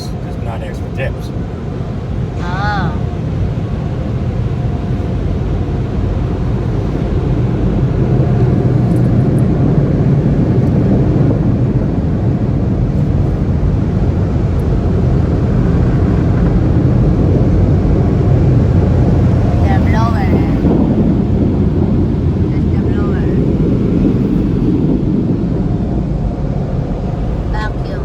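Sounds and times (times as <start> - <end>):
car wash machinery roaring: 0.0 - 28.0.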